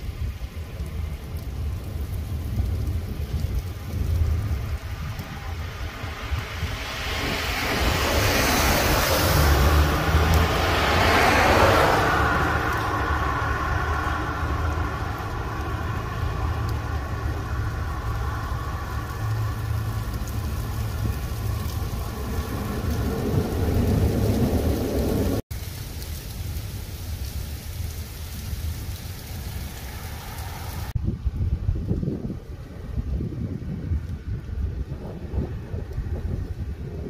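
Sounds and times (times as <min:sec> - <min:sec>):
car tyres hissing on wet road: 0:00.0 - 0:37.0
low thunder rumble: 0:00.0 - 0:37.0
rain falling on a street: 0:00.0 - 0:37.0.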